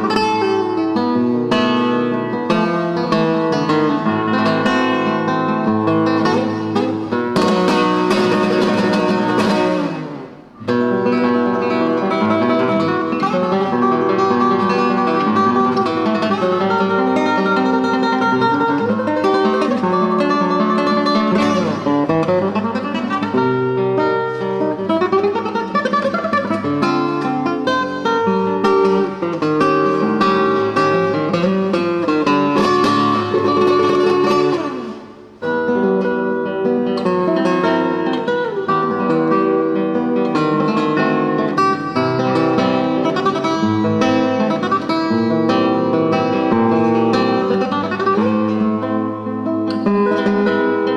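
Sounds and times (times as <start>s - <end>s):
acoustic guitar playing: 0.0s - 50.9s.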